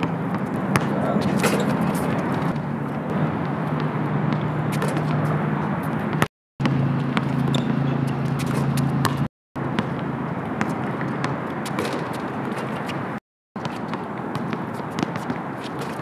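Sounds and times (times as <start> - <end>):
basketball striking the rim: 0.0 - 2.7, 3.8 - 5.4, 6.1 - 12.6, 13.6 - 16.0
basketball bouncing: 0.0 - 13.0, 13.6 - 16.0
traffic-like noise: 0.0 - 16.0.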